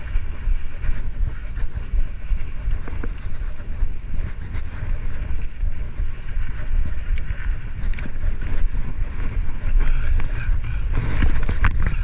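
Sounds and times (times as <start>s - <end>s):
faint ticks from bike: 0.0s - 12.0s
wind buffeting microphone: 0.0s - 12.0s.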